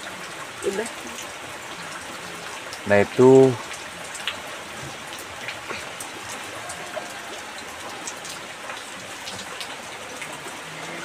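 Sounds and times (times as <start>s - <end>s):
sharp raindrops striking surfaces: 0.0s - 11.0s
steady rain hiss: 0.0s - 11.0s.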